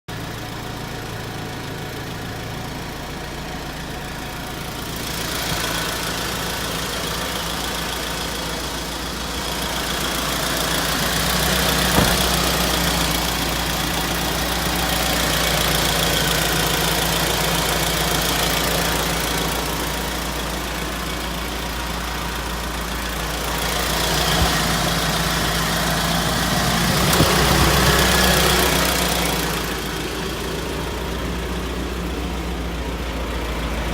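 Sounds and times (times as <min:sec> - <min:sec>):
truck engine idling and revving: 0:00.1 - 0:33.9.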